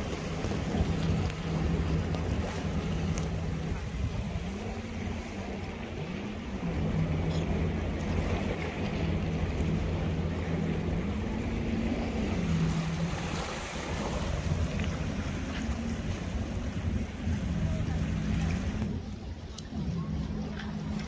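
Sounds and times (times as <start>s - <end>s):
low engine drone: 0.0s - 21.0s
sea waves: 0.0s - 21.0s
wind buffeting microphone: 0.0s - 21.0s.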